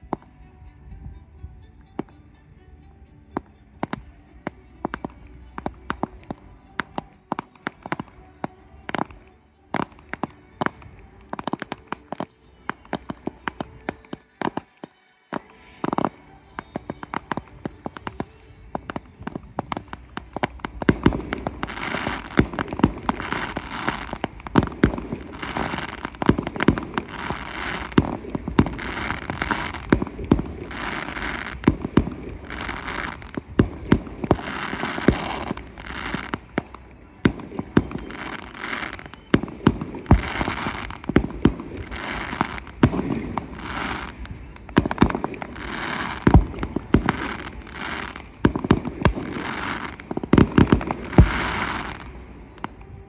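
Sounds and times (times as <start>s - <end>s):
fireworks bursting with sharp bangs: 3.3s - 53.0s
fireworks hissing: 3.4s - 53.0s.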